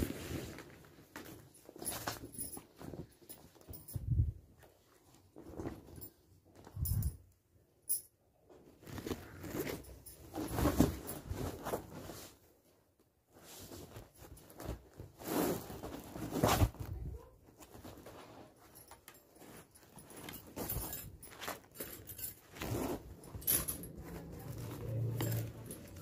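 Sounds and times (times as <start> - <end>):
bedding rustling and flapping: 0.0 - 7.1, 8.5 - 12.7, 13.3 - 26.0.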